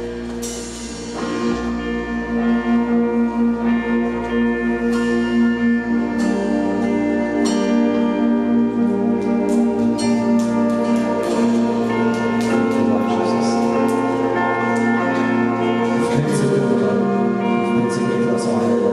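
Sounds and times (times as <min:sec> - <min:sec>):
band playing held chords: 0:00.0 - 0:18.9.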